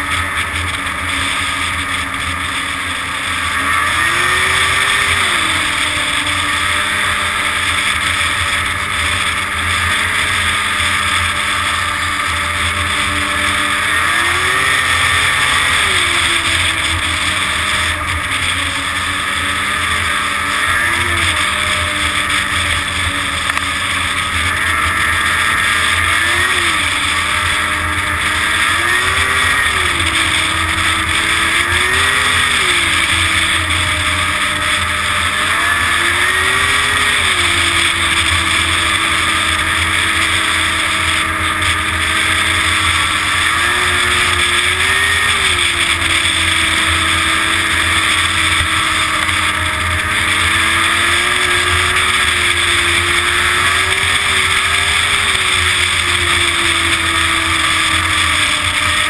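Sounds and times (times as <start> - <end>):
snowmobile engine revving: 0.0 - 59.0
steady rushing noise: 0.0 - 59.0.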